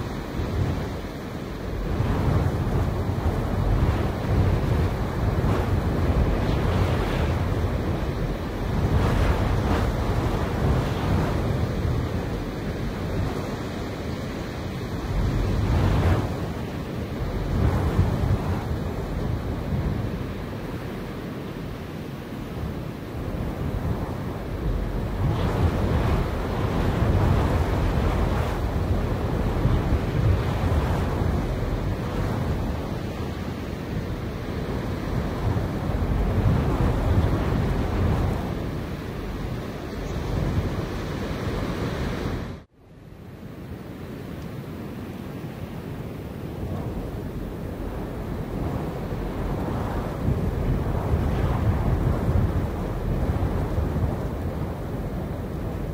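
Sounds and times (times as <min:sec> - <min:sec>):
wind blowing through grass: 0:00.0 - 0:55.9
wind in trees: 0:00.0 - 0:55.9.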